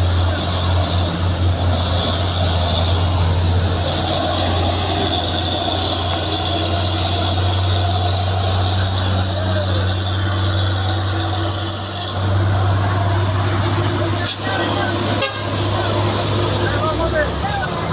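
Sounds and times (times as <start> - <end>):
truck engine droning: 0.0 - 17.9.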